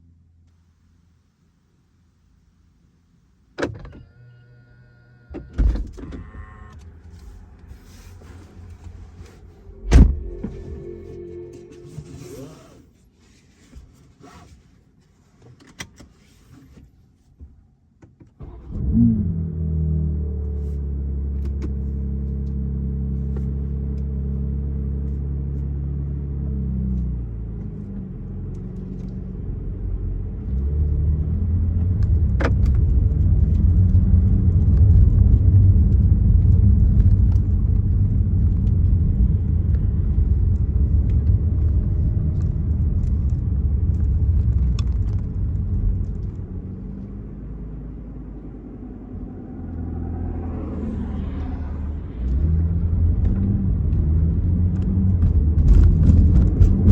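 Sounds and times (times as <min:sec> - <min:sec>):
car engine drone and rumble: 0:00.0 - 0:56.9.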